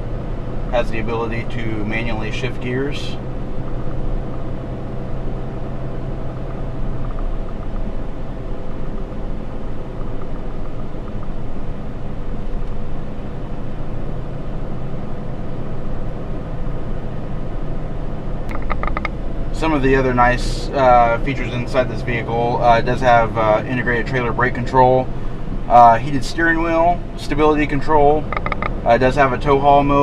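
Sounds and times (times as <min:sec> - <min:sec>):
diesel engine drone: 0:00.0 - 0:30.0
road noise: 0:00.0 - 0:30.0.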